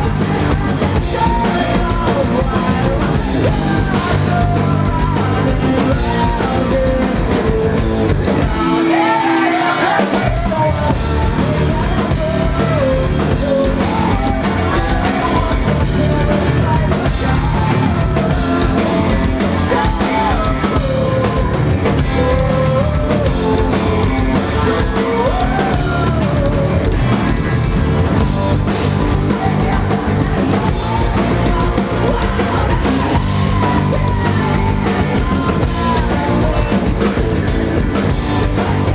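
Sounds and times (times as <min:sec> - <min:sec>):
person singing: 0:00.0 - 0:27.0, 0:28.7 - 0:37.3
rock band playing live: 0:00.0 - 0:38.9.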